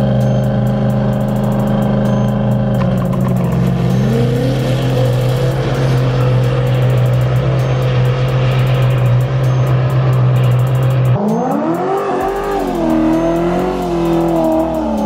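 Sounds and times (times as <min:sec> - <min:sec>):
car engine accelerating: 0:00.0 - 0:15.0
low drone: 0:00.0 - 0:15.0.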